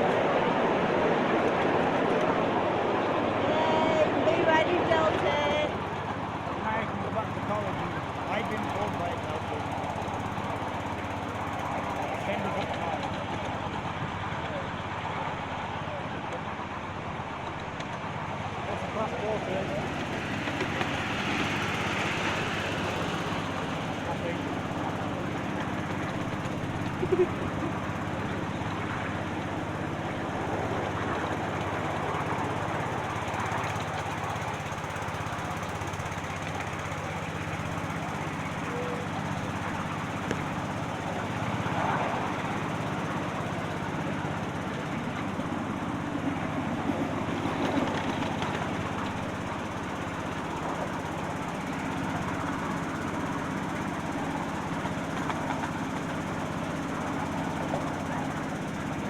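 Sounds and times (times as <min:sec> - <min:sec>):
locomotive engine drone: 0:00.0 - 0:59.0
wheels on rails: 0:00.0 - 0:59.0.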